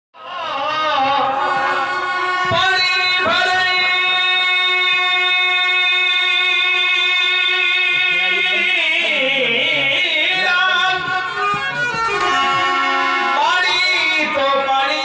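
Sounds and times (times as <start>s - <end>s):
person singing folk melody: 0.2s - 15.0s.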